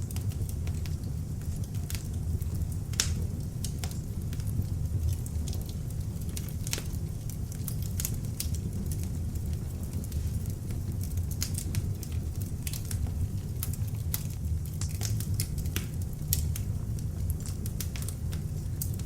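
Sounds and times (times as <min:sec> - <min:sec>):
log fire rumbling: 0:00.0 - 0:19.0
wood crackling and popping: 0:00.0 - 0:19.0.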